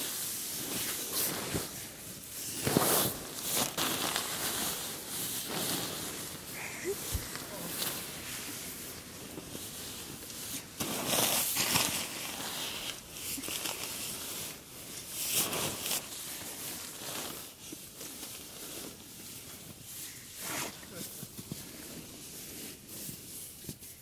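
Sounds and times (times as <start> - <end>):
sleeping bag fabric rustling: 0.0 - 24.0.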